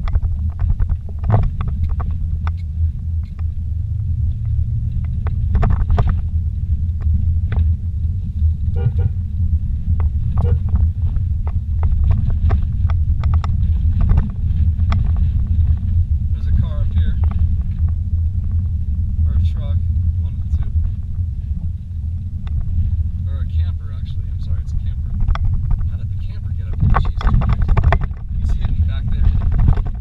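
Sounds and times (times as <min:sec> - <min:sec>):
knocks and jolts from bumpy road: 0:00.0 - 0:30.0
vehicle engine and tyres rumbling: 0:00.0 - 0:30.0.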